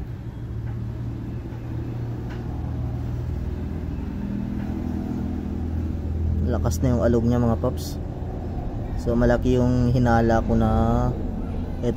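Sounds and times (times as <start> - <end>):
engine humming: 0.0 - 11.9.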